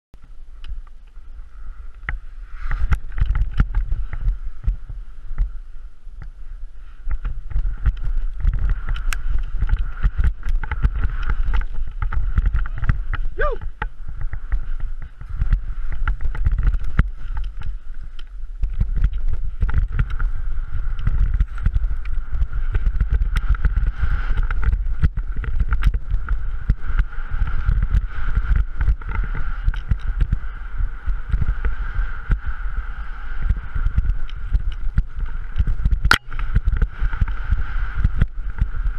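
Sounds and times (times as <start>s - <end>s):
wind buffeting microphone: 0.2s - 38.9s
skis thumping through snow: 7.1s - 38.9s.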